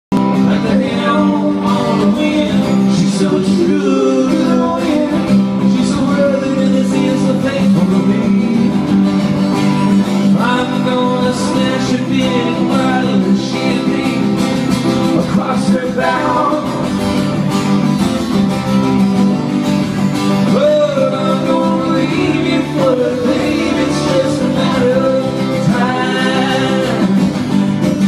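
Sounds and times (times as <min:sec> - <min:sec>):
strummed acoustic guitar: 0:00.1 - 0:28.0.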